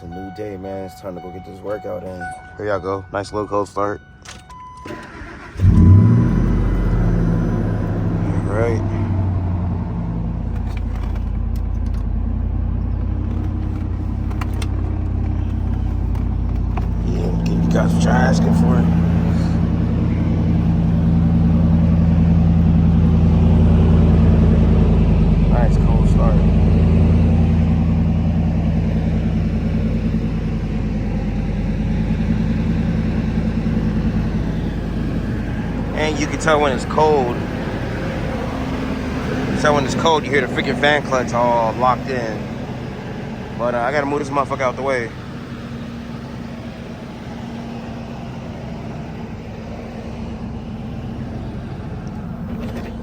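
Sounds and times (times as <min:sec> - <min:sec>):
car engine idling: 0:00.0 - 0:53.0
cooling fan rushing: 0:05.0 - 0:53.0.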